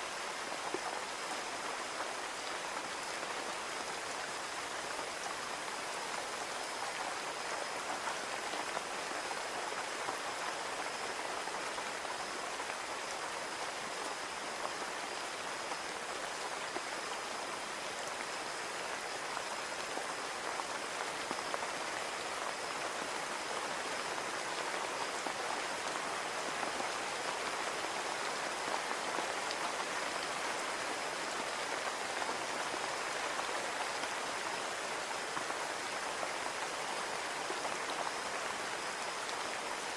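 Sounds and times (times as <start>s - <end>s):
rain on a window: 0.1s - 39.9s.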